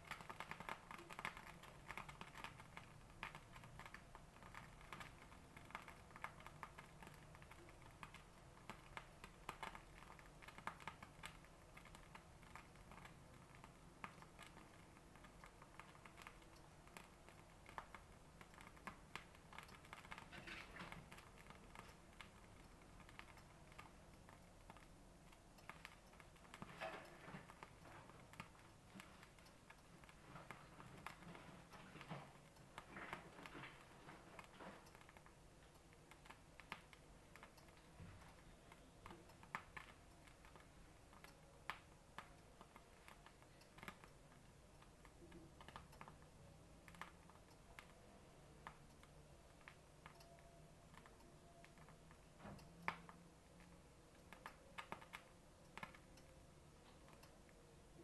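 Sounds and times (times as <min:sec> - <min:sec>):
pot ticking while heating: 0:00.0 - 0:58.0.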